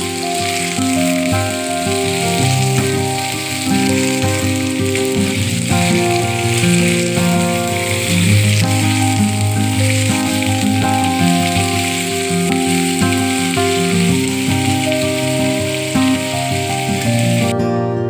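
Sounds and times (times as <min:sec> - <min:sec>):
cheese cubes sizzling in oil: 0:00.0 - 0:17.5
background music: 0:00.0 - 0:18.0.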